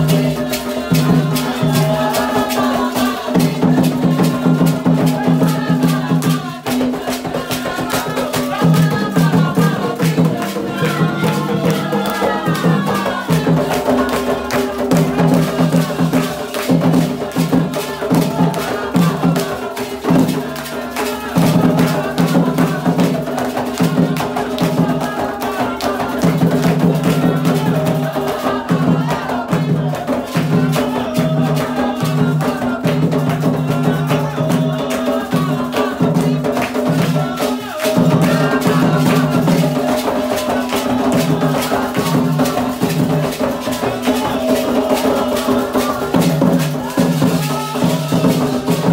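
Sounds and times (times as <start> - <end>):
hand drums beating: 0.0 - 48.9
voices chanting: 0.0 - 48.9.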